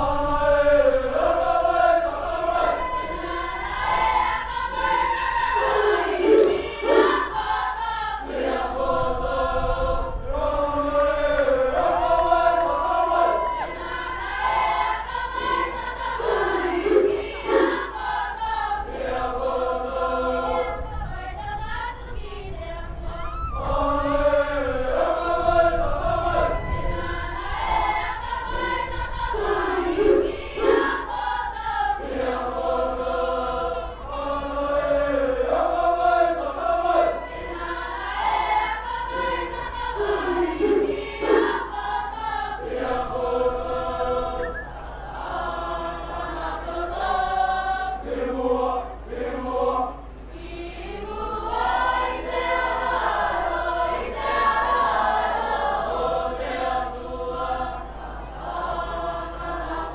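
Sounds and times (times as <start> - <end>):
mixed choir singing unaccompanied: 0.0 - 59.9.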